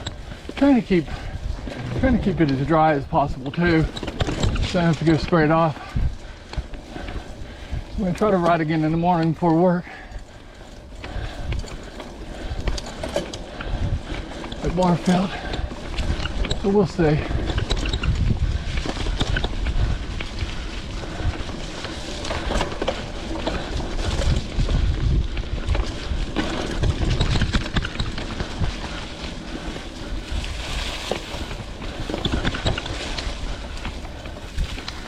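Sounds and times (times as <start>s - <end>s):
bike clicking and rattling: 0.0s - 35.0s
bike tyres rumbling on dirt: 0.0s - 35.0s
wind buffeting microphone: 0.0s - 35.0s.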